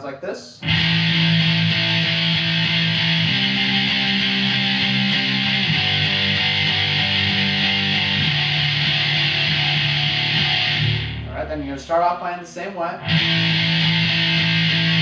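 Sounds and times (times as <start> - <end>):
electric guitar power chords: 0.6 - 11.9, 13.0 - 15.0.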